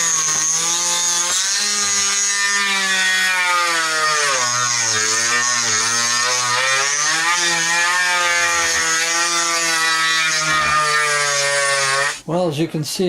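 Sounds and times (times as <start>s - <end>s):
rotary tool saw cutting wood: 0.0s - 12.2s.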